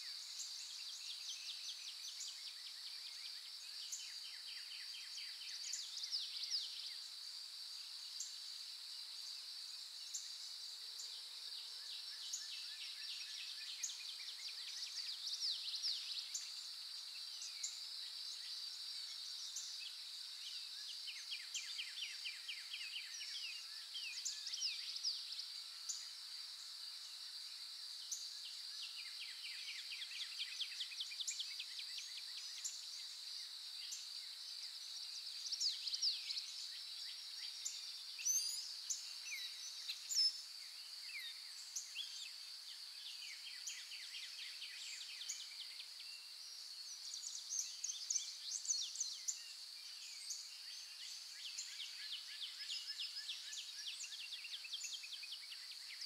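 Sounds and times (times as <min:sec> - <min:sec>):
songbirds singing: 0:00.0 - 0:27.2, 0:27.9 - 0:56.0.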